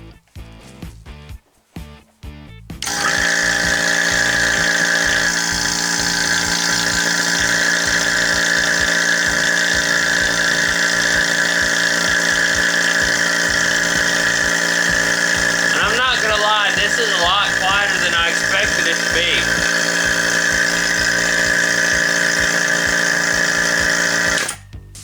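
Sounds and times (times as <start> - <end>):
vacuum pump motor humming: 2.7 - 25.0.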